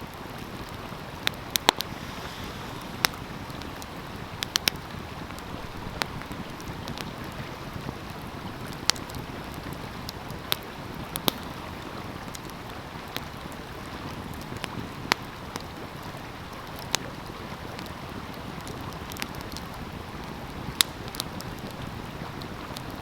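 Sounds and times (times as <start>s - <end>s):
flowing stream: 0.0s - 23.0s
wood fire crackling: 0.0s - 23.0s.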